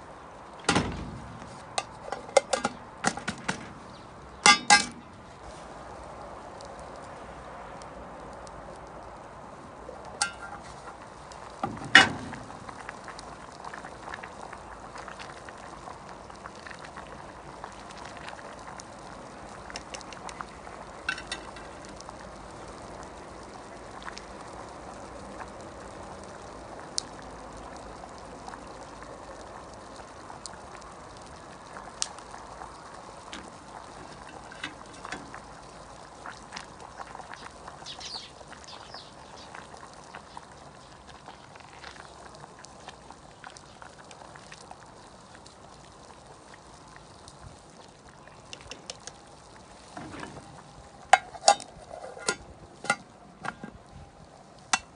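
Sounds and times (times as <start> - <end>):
campfire crackles: 0.0 - 54.9
pot bubbling: 1.2 - 54.9.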